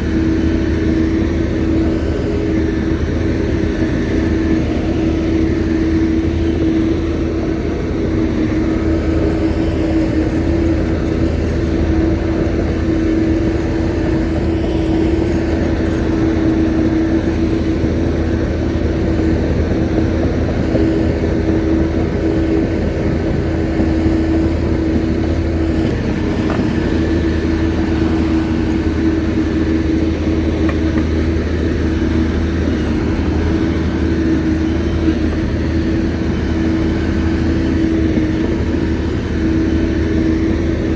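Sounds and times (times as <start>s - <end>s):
bulldozer diesel engine droning: 0.0s - 40.9s
steady hum: 0.0s - 40.9s.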